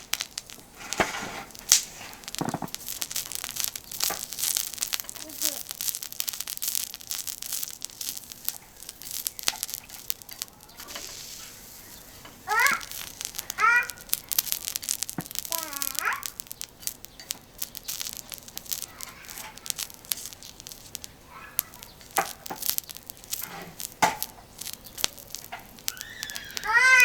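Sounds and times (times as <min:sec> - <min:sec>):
oil crackling on griddle: 0:00.0 - 0:27.0.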